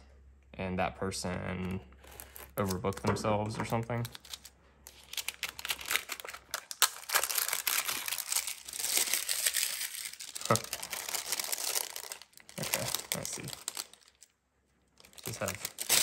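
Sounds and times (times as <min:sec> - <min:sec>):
packaging crinkling and tearing: 0:02.0 - 0:14.4, 0:15.0 - 0:16.0.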